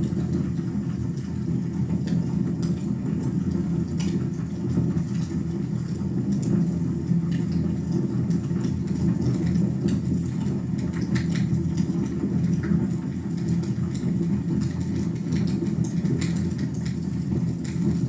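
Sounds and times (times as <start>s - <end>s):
wood fire rumbling: 0.0s - 18.0s.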